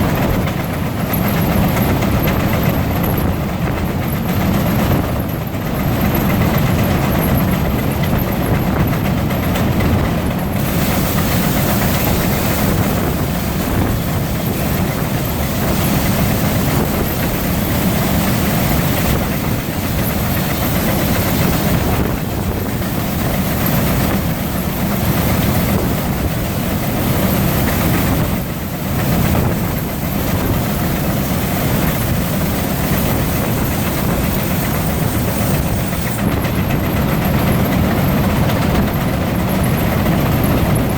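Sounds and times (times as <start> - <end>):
steam engines running under load: 0.0 - 40.9.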